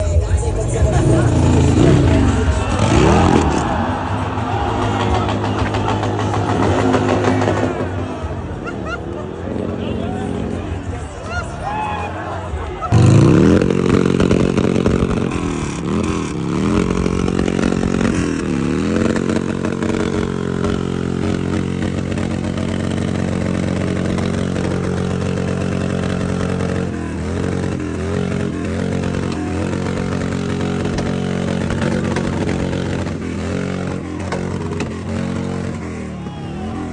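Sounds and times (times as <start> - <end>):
motorcycle engine running: 0.0 - 11.2, 12.5 - 36.9.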